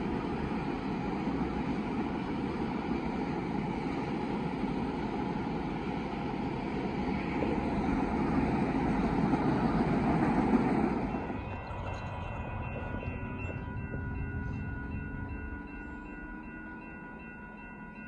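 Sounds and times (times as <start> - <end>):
freight train rumbling past: 0.0 - 18.0
railroad crossing bell ringing: 0.0 - 18.0.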